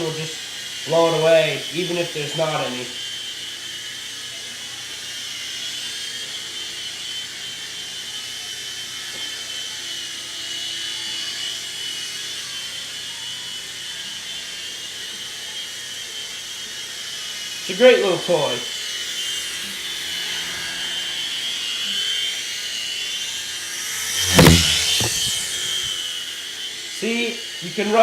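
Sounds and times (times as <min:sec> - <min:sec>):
toy helicopter whine: 0:00.0 - 0:28.0.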